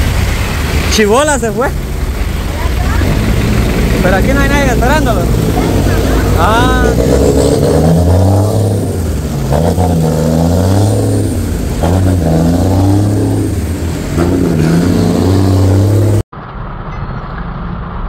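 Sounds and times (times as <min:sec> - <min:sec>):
rain on wet road: 0:00.0 - 0:15.2
truck engine revving: 0:00.0 - 0:16.3.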